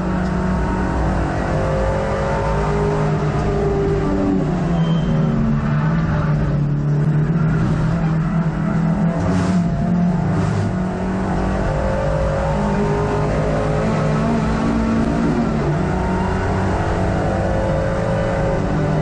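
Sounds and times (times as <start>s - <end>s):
car engine revving at speed: 0.0s - 19.0s
road and wind noise: 0.0s - 19.0s.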